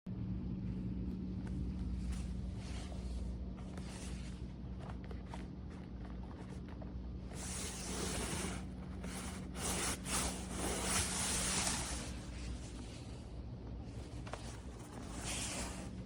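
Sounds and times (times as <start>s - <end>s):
low hum: 0.1s - 16.0s
rustling rubbing noise: 1.9s - 16.0s.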